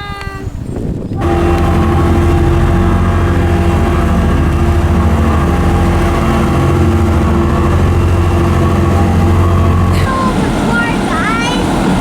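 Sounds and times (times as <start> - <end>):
diesel engine running: 1.2 - 12.0.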